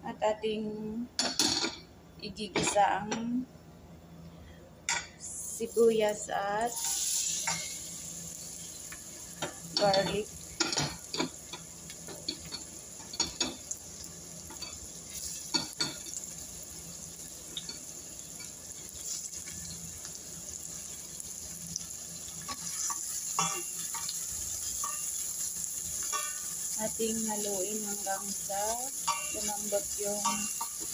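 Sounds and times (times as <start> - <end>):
onion sizzling in hot oil: 5.4 - 30.9.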